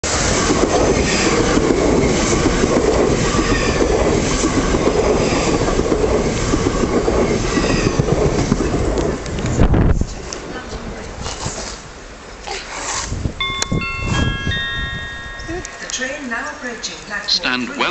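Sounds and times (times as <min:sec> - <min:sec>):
train rumble and wheel clatter: 0:00.0 - 0:17.9.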